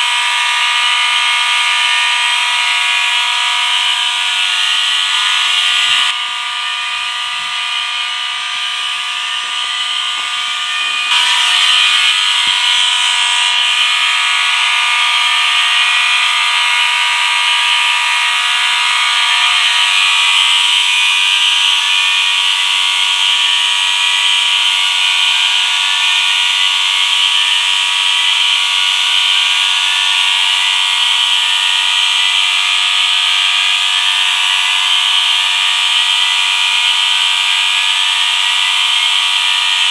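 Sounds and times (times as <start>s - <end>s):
fire alarm horns sounding: 0.0s - 32.2s.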